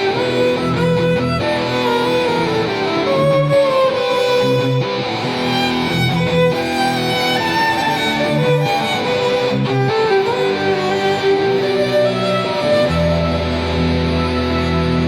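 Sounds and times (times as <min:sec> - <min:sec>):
guitar accompaniment: 0:00.0 - 0:15.0
sustained string melody: 0:00.0 - 0:15.0.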